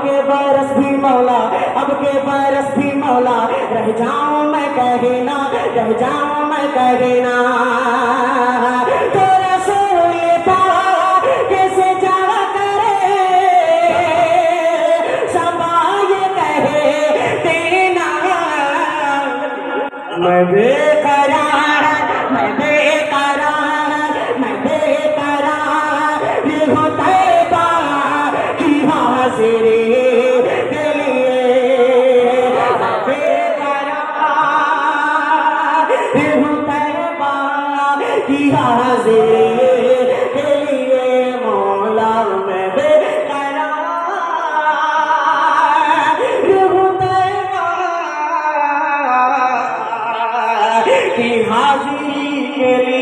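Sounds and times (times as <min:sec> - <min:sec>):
man singing devotional song: 0:00.0 - 0:53.0.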